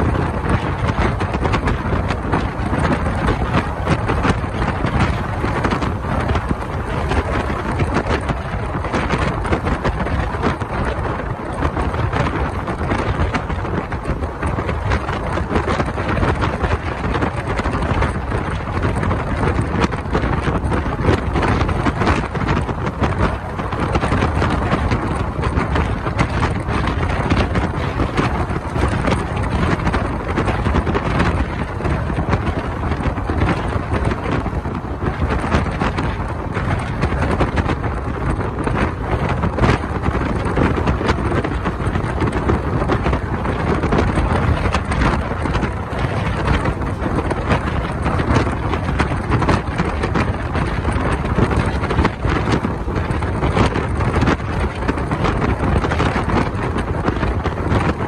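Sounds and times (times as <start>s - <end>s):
train running on rails: 0.0s - 58.0s
wind buffeting microphone: 0.0s - 58.0s.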